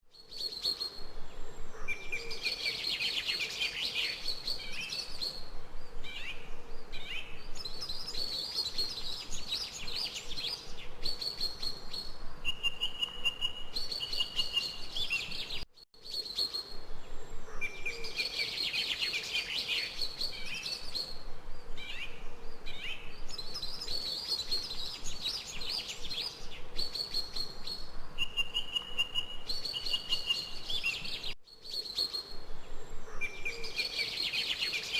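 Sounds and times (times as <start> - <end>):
birds trilling and whistling: 6.1 - 34.9.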